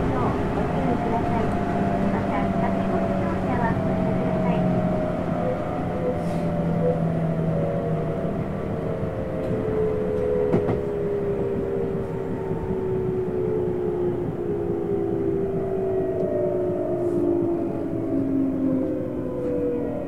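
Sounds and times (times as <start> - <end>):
wind and track noise: 0.0 - 20.0
train motor whine: 1.4 - 19.8.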